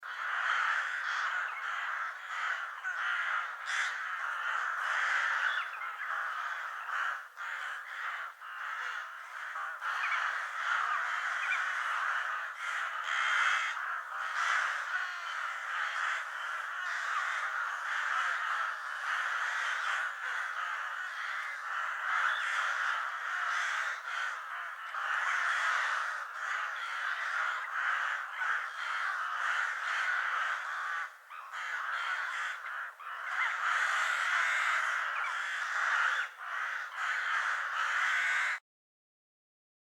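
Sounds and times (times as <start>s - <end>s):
crows cawing: 0.0s - 38.6s.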